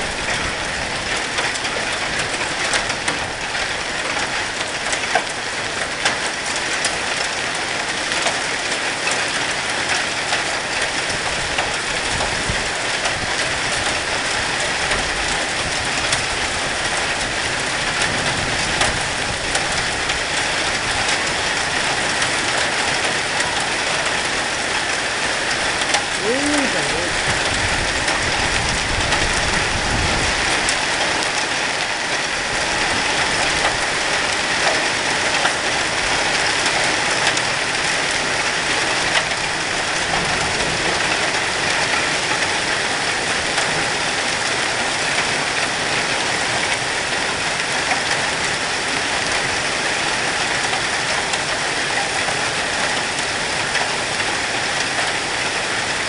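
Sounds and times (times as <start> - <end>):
hail pattering on ground: 0.0 - 56.0.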